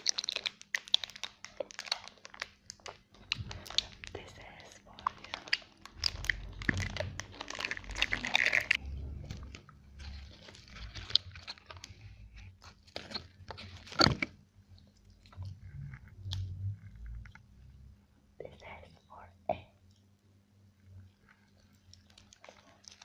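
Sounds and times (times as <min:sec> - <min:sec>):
crinkling: 0:00.0 - 0:17.5, 0:20.8 - 0:23.0
crunching and chewing food: 0:00.0 - 0:17.8, 0:20.7 - 0:23.0.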